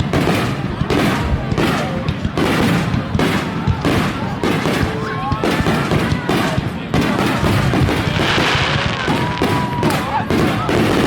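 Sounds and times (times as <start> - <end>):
fireworks bangs with rumbling tail: 0.0 - 11.0.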